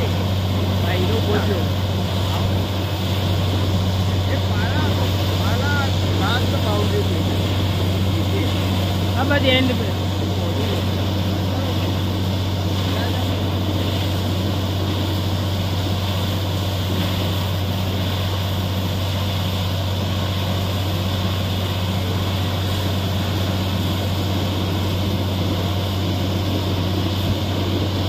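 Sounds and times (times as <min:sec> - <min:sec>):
drilling rig engine drone: 0:00.0 - 0:28.0
water and rock cuttings blasting: 0:00.0 - 0:28.0.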